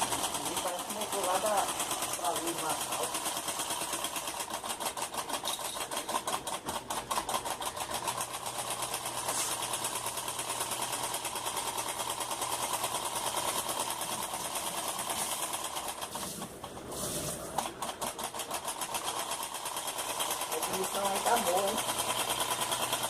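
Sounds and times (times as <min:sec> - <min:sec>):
model engine mechanical clatter: 0:00.0 - 0:16.8, 0:17.5 - 0:23.0.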